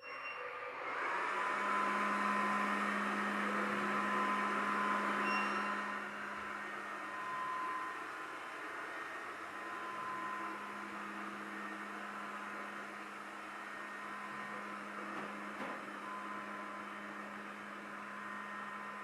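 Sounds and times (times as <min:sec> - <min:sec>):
robot vacuum motor whir: 0:00.8 - 0:19.0.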